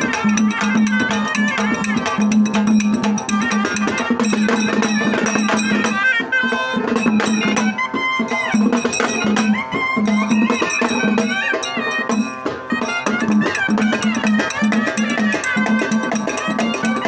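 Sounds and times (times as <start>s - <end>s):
barrel drum: 0.0s - 17.0s
small hand cymbals: 0.0s - 17.0s
stick-beaten drum: 0.0s - 17.0s.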